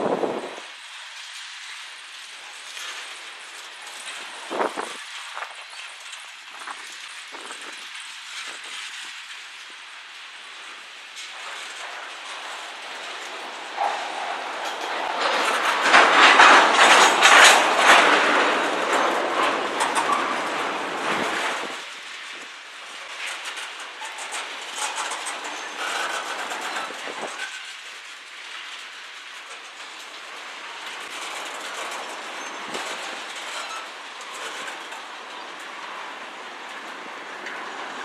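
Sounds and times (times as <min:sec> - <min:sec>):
train rumble: 0:00.0 - 0:38.0
train wheels clicking over rail joints: 0:00.0 - 0:38.0.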